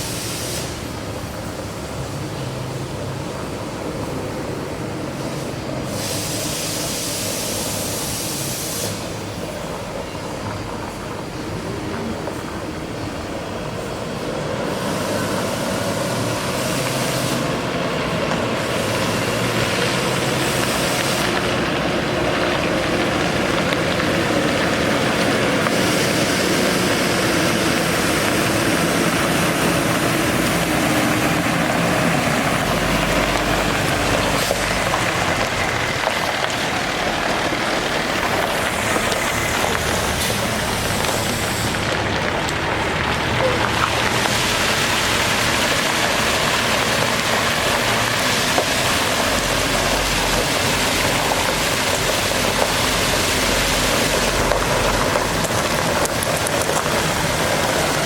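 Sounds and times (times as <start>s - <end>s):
water spraying: 0.0s - 9.6s, 11.3s - 58.0s
diesel engine at raised throttle: 0.0s - 58.0s.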